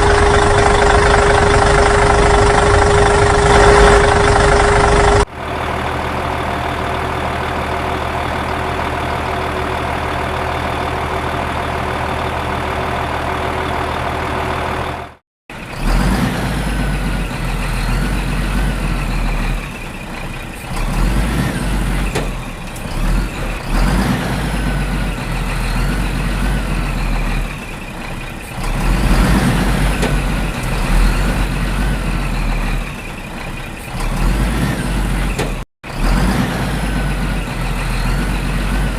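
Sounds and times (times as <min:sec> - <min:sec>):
heavy uneven engine rumble: 0:00.0 - 0:38.9
steady engine hum: 0:00.0 - 0:38.9.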